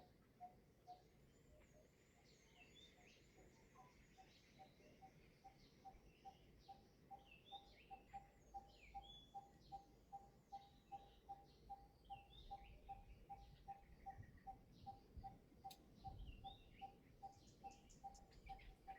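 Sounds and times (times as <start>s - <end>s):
faint birdsong chirps and whistles: 0.0s - 18.9s.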